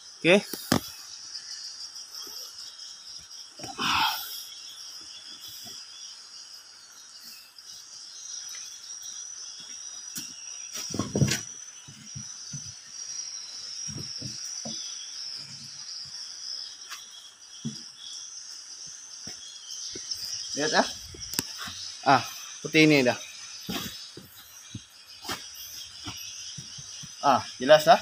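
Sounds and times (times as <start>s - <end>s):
insect chirring: 0.0s - 28.0s.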